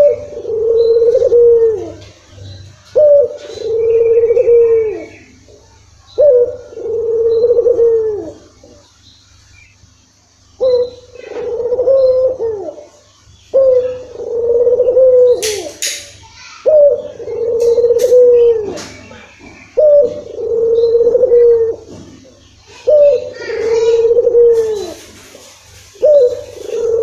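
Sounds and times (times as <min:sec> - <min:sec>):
dove cooing: 0:00.0 - 0:08.9, 0:10.6 - 0:15.8, 0:16.4 - 0:27.0.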